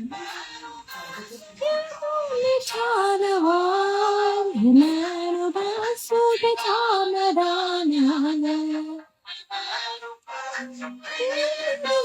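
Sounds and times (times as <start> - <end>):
woman singing slow melody: 0.0 - 0.3, 1.0 - 9.0, 10.6 - 12.0.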